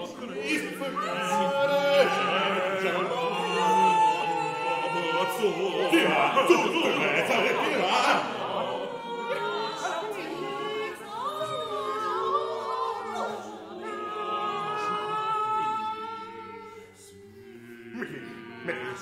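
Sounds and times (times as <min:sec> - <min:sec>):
unaccompanied vocal group singing: 0:00.0 - 0:19.0.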